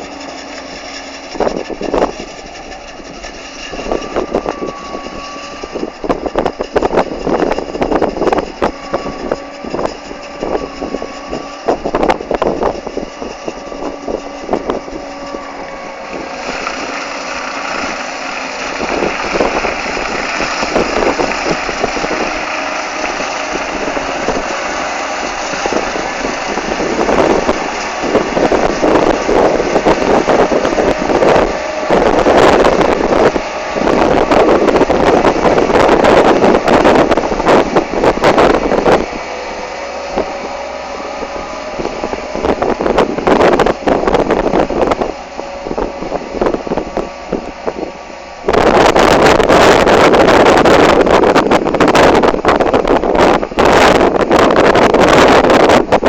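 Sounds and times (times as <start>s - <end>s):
harvesting machine engine drone: 0.0s - 56.0s
rattling clatter: 0.0s - 56.0s.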